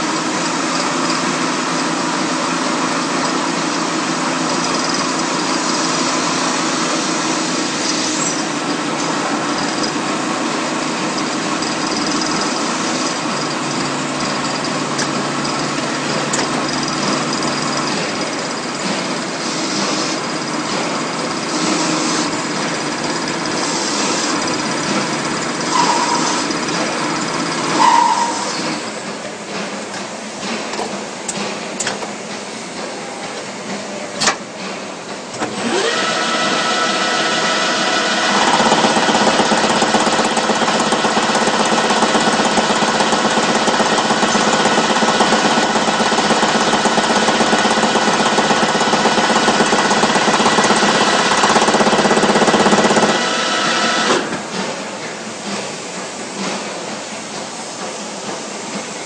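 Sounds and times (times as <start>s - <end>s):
lathe machining noise: 0.0s - 59.0s
workshop machinery background: 0.0s - 59.0s.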